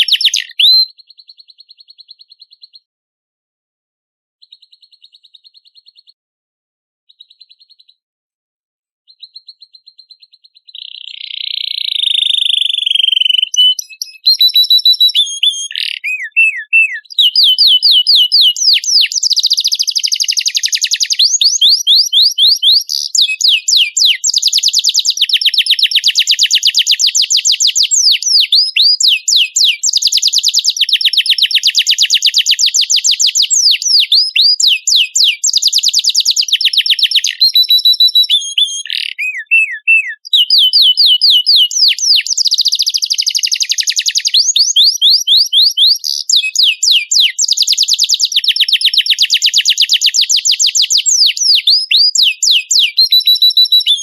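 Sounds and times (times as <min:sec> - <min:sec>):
canary singing trills: 0:00.0 - 0:02.9, 0:04.4 - 0:06.2, 0:07.1 - 0:08.0, 0:09.1 - 0:54.0.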